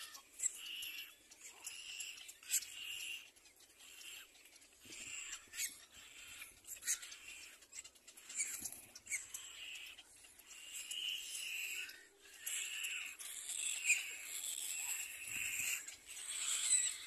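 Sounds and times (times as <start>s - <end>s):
high-pitched bird calls: 0.0s - 17.0s.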